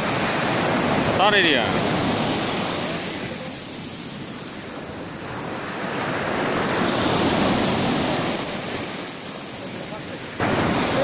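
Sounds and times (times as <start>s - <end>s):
sea surf washing up beach: 0.0s - 11.0s.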